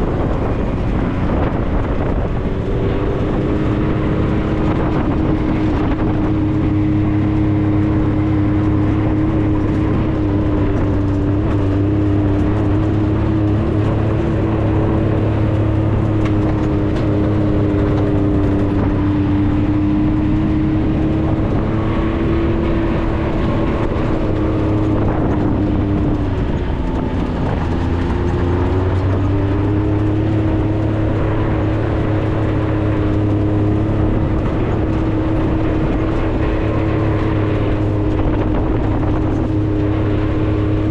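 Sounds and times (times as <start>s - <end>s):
road noise: 0.0s - 40.9s
vehicle engine running: 0.0s - 40.9s.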